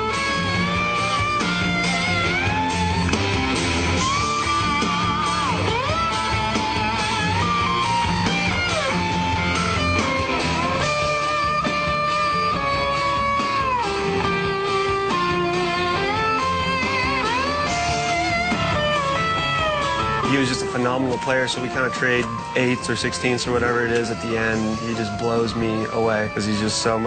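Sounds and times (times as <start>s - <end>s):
country-rock band guitars: 0.0s - 27.0s
pedal steel guitar sliding notes: 0.0s - 27.0s.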